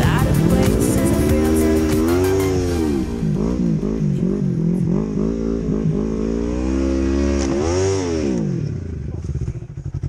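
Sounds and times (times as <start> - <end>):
snowmobile engine revving: 0.0 - 10.0.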